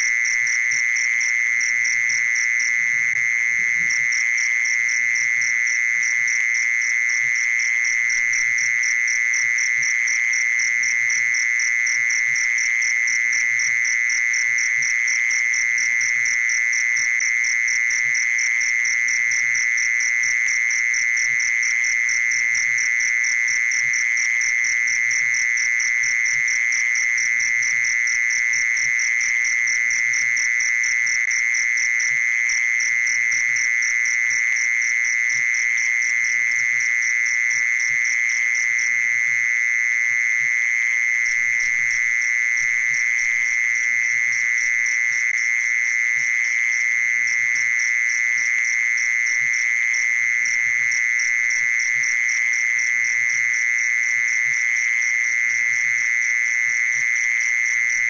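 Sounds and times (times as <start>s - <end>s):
high cricket trill: 0.0s - 58.0s
pulsing cricket chirp: 0.0s - 58.0s.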